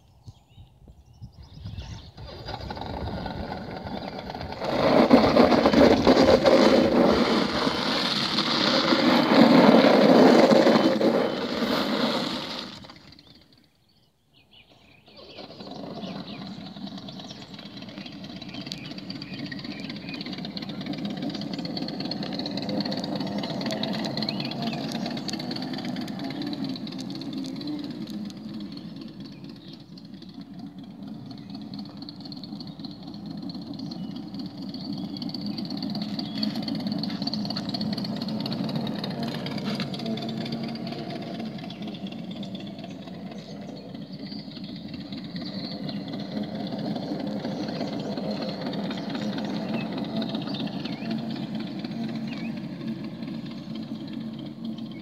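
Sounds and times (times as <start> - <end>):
motorbike engine passing: 1.6 - 13.8, 14.6 - 55.0.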